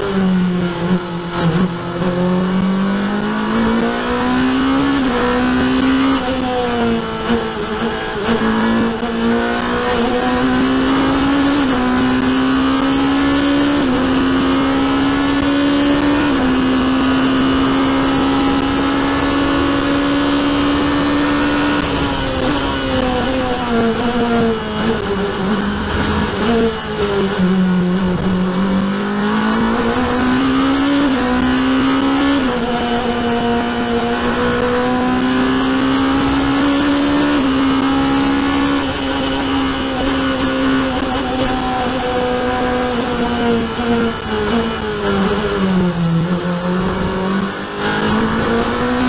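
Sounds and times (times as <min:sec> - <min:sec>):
race car engine accelerating: 0:00.0 - 0:49.0.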